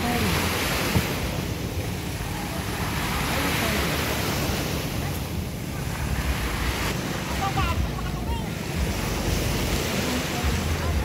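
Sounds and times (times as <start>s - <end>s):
small waves breaking on shore: 0.0s - 11.0s.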